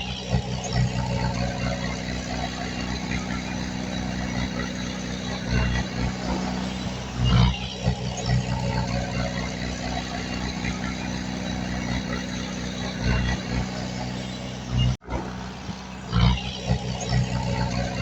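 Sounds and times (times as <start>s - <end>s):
heavy machinery diesel engine running: 0.0s - 18.0s.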